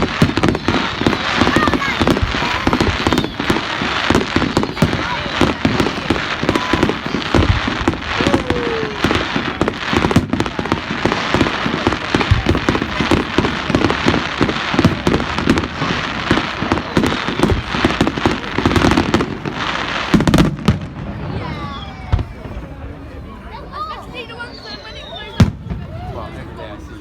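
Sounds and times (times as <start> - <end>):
fireworks popping and crackling: 0.0 - 22.8, 24.8 - 26.0.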